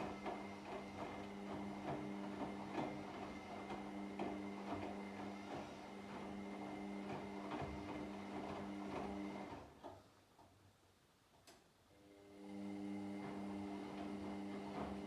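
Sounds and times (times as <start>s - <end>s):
washing machine running: 0.0s - 9.8s, 12.1s - 15.0s.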